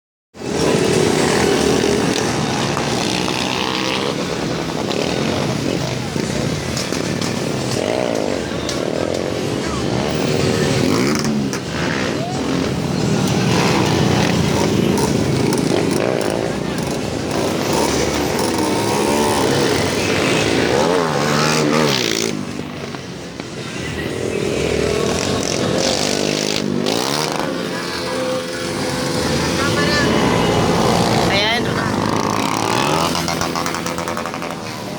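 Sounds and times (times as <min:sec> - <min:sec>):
vehicle engine running loudly: 0:00.4 - 0:34.9.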